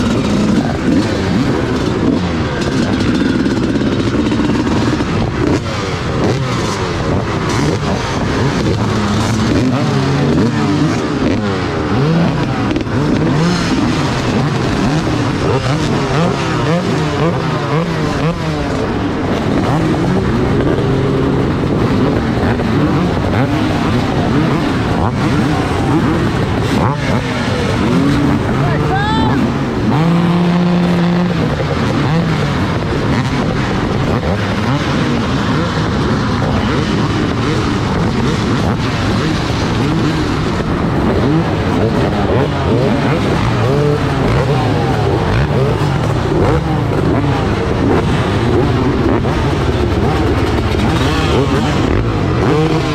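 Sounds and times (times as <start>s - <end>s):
motocross bikes revving: 0.0s - 52.9s.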